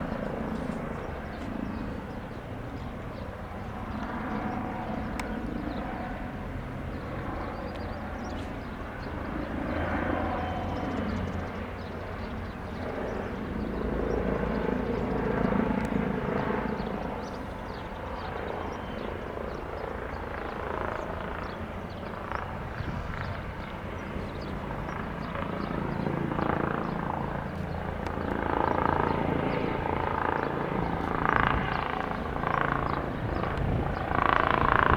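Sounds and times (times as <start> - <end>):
helicopter rotor and turbines: 0.0 - 34.9.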